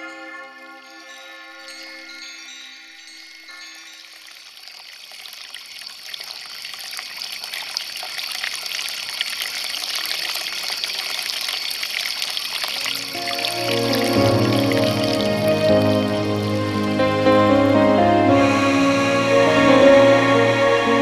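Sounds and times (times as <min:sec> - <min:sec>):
water jets splashing: 0:04.1 - 0:20.9.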